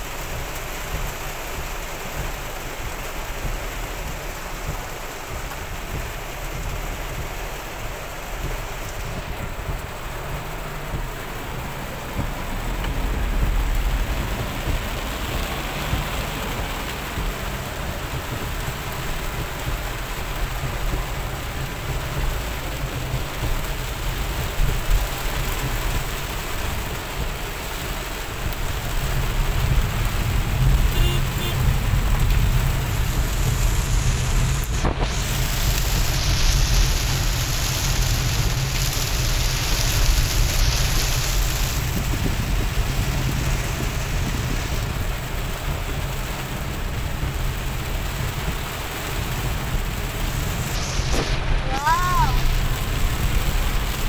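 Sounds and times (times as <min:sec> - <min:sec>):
car rumble on wet road: 0:00.0 - 0:54.0
heavy rain on car windshield: 0:00.0 - 0:54.0.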